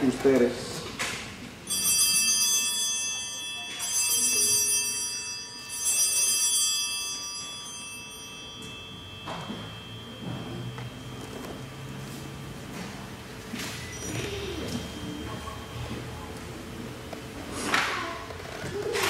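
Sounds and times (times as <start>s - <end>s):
small altar bells ringing: 1.6s - 18.2s.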